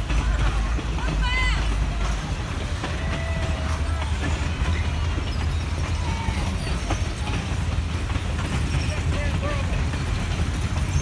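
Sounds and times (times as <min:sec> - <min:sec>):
train wheel clicks: 0:00.0 - 0:11.0
train wheels rumbling on rails: 0:00.0 - 0:11.0.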